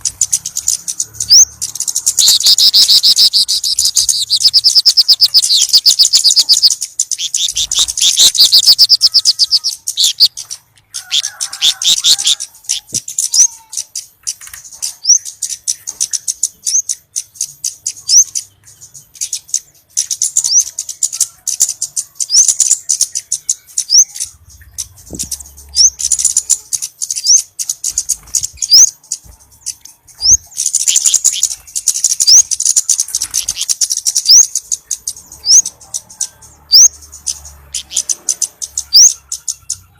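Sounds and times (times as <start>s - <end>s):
high thin bird chirps and trills: 0.0s - 39.9s.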